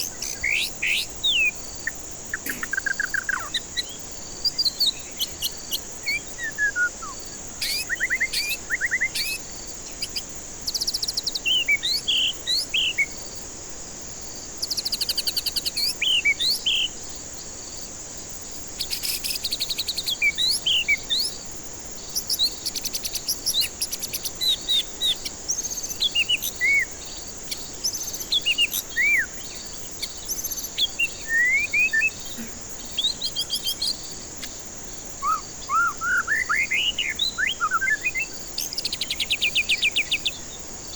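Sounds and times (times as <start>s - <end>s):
bird singing whistled notes: 0.0s - 13.2s, 14.6s - 16.9s, 18.8s - 21.4s, 22.1s - 40.6s
high insect-like hiss: 0.0s - 40.9s.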